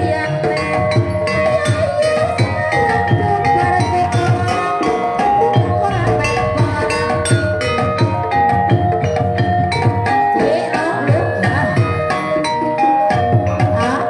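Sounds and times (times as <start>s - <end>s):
hand drums beating fast rhythm: 0.0s - 14.0s
tuned percussion ringing melody: 0.0s - 14.0s.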